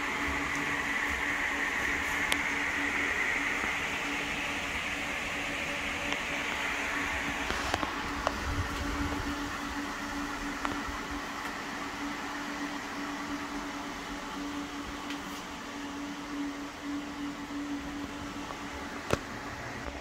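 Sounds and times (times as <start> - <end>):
cooling fans whirring: 0.0 - 20.0.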